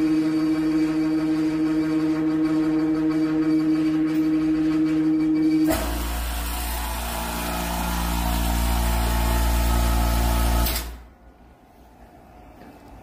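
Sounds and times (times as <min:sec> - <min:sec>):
vacuum pump motor humming: 0:00.0 - 0:10.8.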